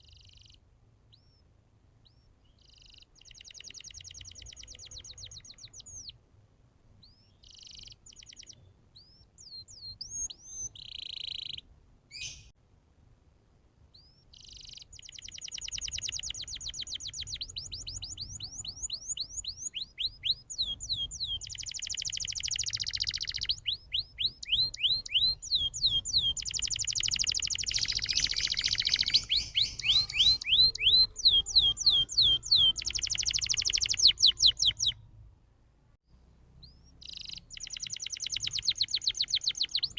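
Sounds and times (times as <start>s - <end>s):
canary singing trills: 0.0s - 6.2s, 7.0s - 12.5s, 13.9s - 35.0s, 36.6s - 39.9s.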